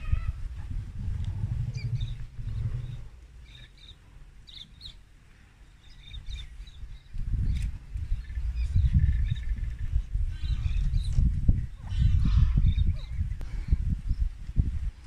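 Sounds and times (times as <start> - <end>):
low rumbling noise: 0.0 - 15.0
small birds chirping: 1.0 - 14.4.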